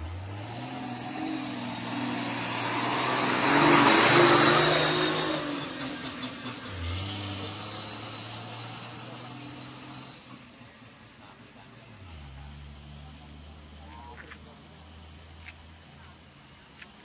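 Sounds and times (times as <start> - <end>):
vehicle engine with road noise: 0.0 - 17.0
vehicle passing by: 0.0 - 17.0.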